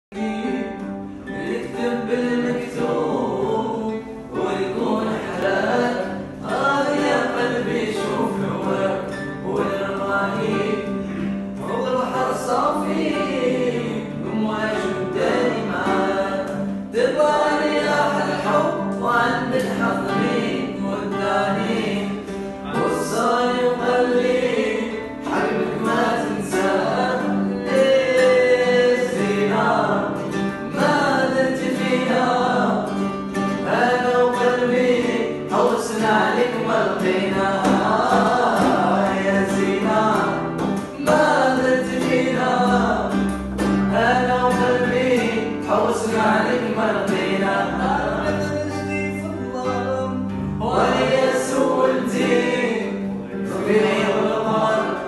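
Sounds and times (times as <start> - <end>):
men singing together: 0.1 - 55.0
strummed acoustic guitars: 0.1 - 55.0.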